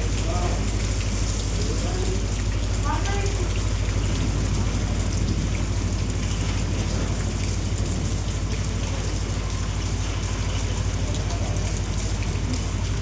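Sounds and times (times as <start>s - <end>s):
heavy rain falling: 0.0s - 13.0s
low rumble: 0.0s - 13.0s.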